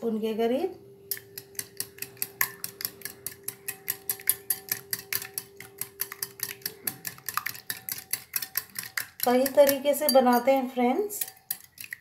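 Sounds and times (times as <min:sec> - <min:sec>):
whisk ticking against glass bowl: 0:01.1 - 0:12.0.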